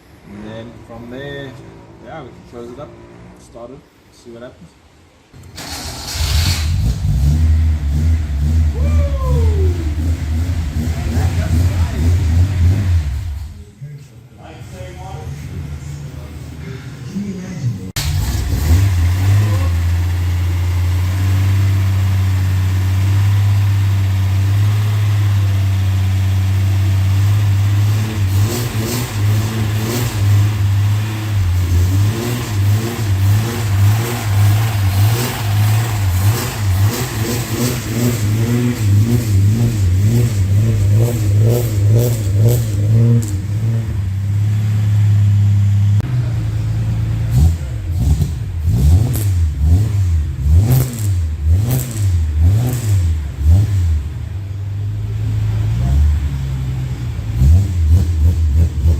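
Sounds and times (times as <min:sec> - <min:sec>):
car engine revving: 0:05.4 - 0:13.7, 0:17.9 - 0:58.9
engine crackling: 0:05.4 - 0:13.7, 0:18.0 - 0:58.9.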